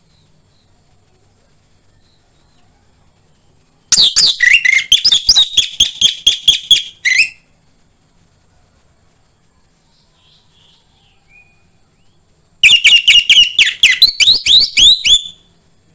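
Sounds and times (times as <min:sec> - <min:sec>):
faint high steady hiss: 0:00.0 - 0:15.9.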